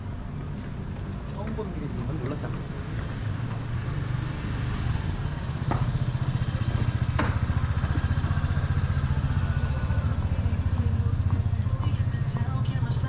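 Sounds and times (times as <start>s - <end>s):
vehicle engine idling: 0.9s - 13.0s.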